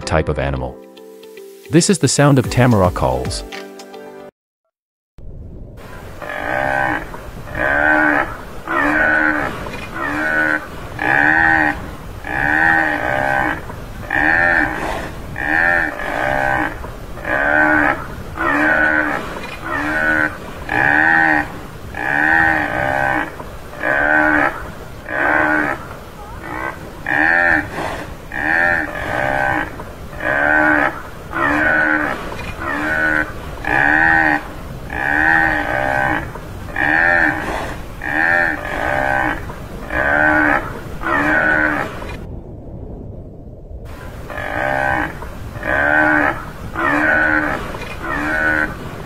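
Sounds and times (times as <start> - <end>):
buffalo calling: 6.2 - 42.1, 44.3 - 48.9.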